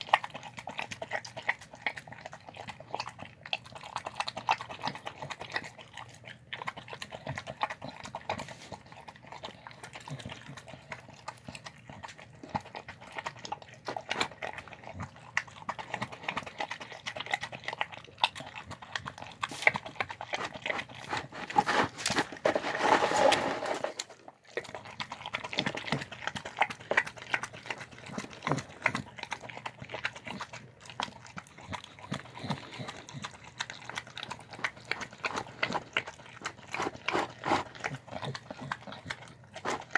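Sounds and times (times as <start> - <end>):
dog chewing food: 0.0 - 39.9.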